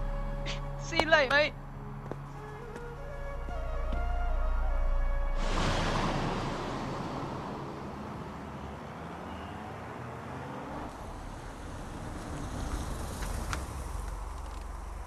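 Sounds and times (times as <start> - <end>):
street traffic: 0.0 - 4.7, 5.3 - 15.0.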